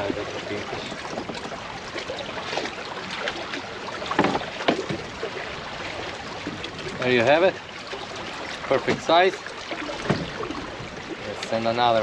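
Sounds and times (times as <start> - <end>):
water lapping against kayak hull: 0.0 - 12.0
wind: 0.0 - 12.0.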